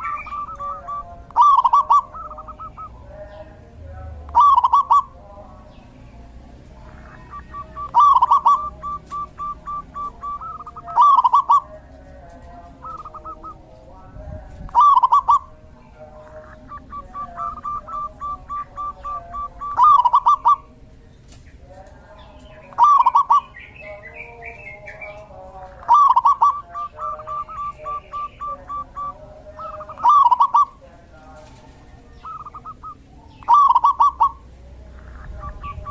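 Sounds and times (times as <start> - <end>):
doves cooing: 0.0 - 5.8, 6.4 - 35.9.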